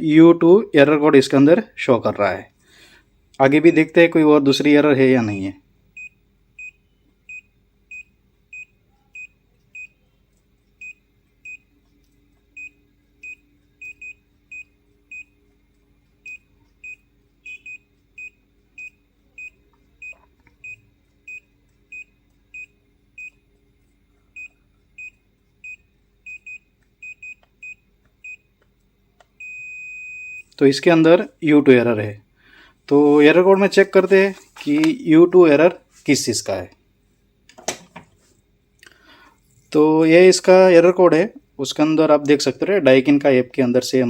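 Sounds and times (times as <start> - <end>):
air conditioner buzzer beeping: 0.0 - 28.6, 29.3 - 36.7.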